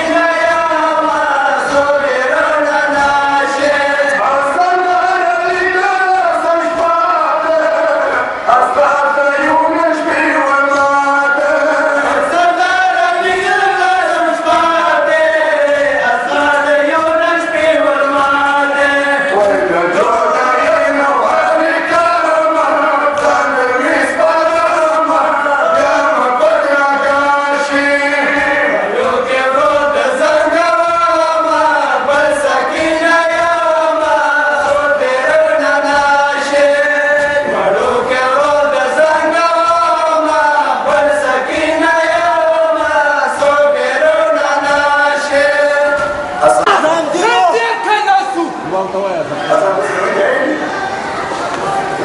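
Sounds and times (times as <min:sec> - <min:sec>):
man singing into a microphone: 0:00.0 - 0:48.6
men chanting a lament: 0:00.0 - 0:50.7.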